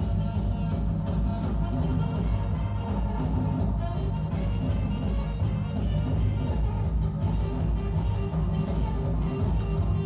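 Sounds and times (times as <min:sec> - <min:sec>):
live dance and drum band music: 0:00.0 - 0:10.0.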